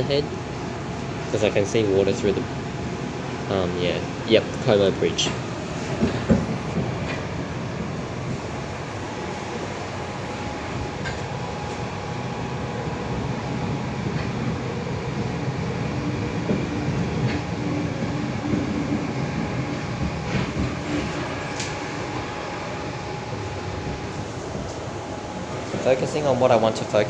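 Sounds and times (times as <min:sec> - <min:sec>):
steady hum: 0:00.0 - 0:27.0
train wheels rumbling on track: 0:00.0 - 0:27.0.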